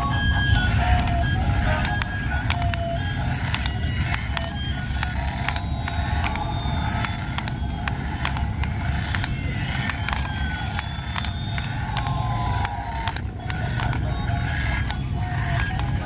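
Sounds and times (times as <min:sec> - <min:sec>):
sharp clicks: 0:00.0 - 0:16.0
toy electronic sound effects: 0:00.0 - 0:16.0.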